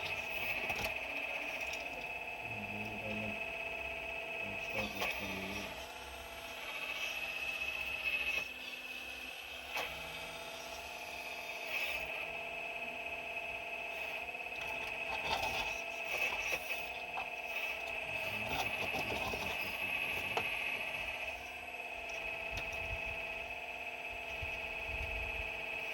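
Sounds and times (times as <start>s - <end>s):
excavator motor whining: 0.0s - 25.9s.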